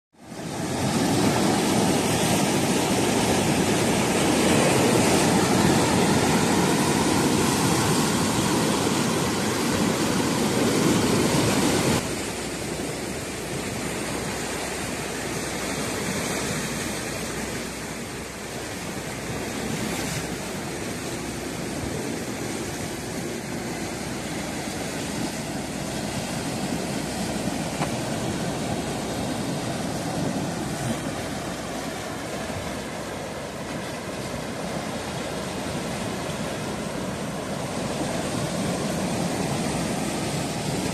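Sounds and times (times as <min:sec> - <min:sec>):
surf washing on rocky shore: 0:00.2 - 0:40.9.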